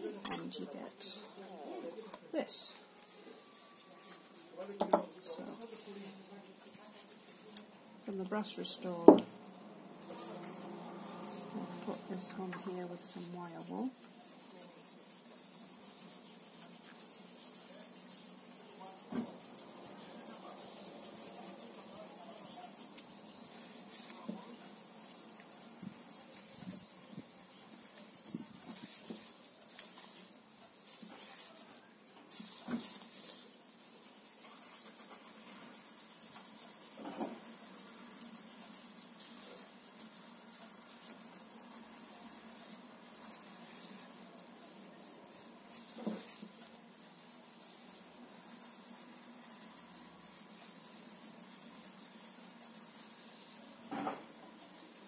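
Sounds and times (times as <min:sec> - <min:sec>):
wire wool rubbing on metal: 0:10.0 - 0:55.0.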